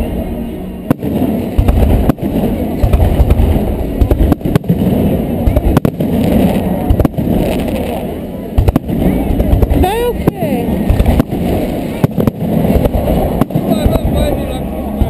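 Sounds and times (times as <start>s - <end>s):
firework cracks: 0.8s - 14.6s
firework booms: 0.9s - 14.5s.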